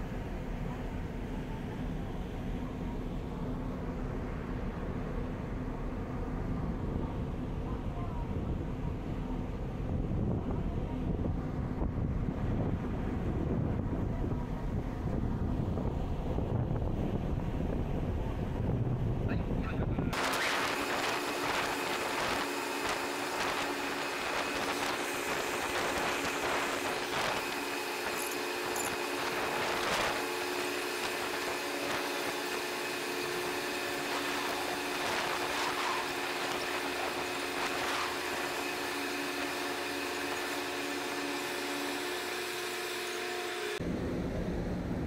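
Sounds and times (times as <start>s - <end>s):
machinery drone: 0.0s - 45.0s.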